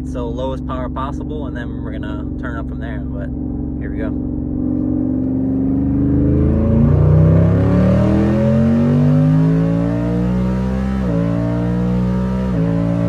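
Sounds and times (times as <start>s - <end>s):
engine at full throttle: 0.0s - 13.0s.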